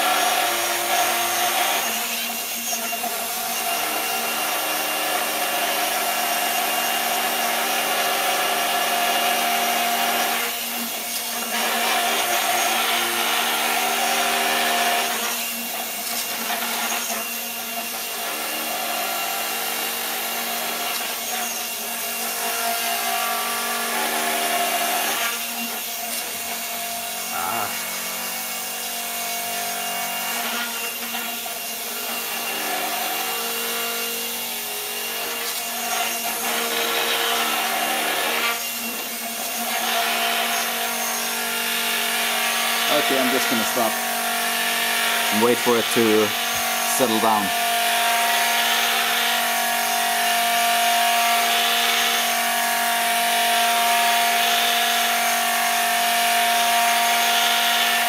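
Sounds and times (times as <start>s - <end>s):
gyroscope motor whine: 0.0s - 52.6s.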